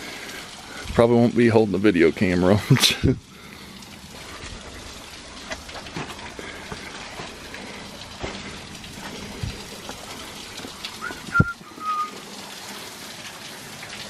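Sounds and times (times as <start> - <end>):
waterfall trickling among rocks: 0.0 - 14.0.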